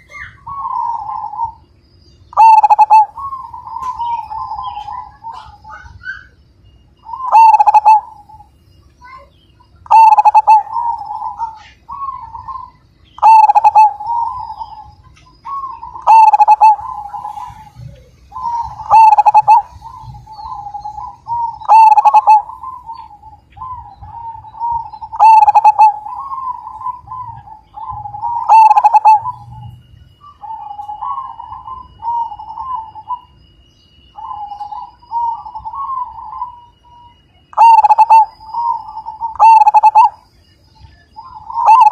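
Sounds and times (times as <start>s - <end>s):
dove cooing: 0.0s - 6.4s, 7.0s - 41.9s.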